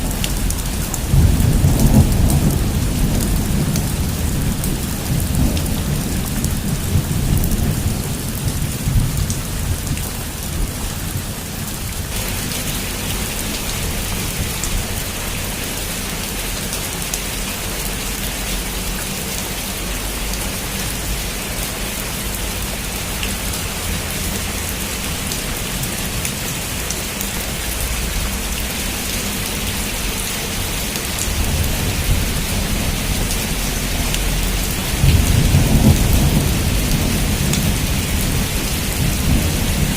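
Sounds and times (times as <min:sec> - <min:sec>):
low rolling thunder: 0:00.0 - 0:15.6, 0:22.6 - 0:39.9
heavy rain on a roof: 0:00.0 - 0:39.9.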